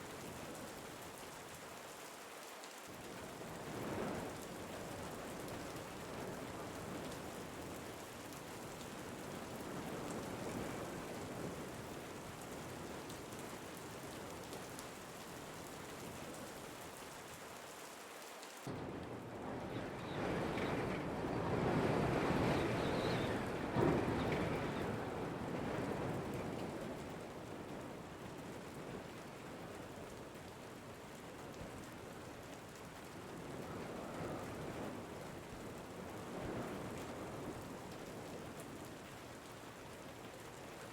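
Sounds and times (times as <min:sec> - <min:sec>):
steady rain: 0:00.0 - 0:40.9
wind: 0:00.0 - 0:40.9.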